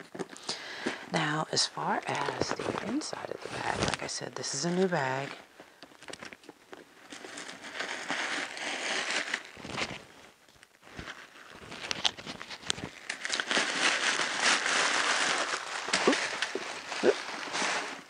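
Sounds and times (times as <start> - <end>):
paper crinkling and rustling: 1.9 - 18.0.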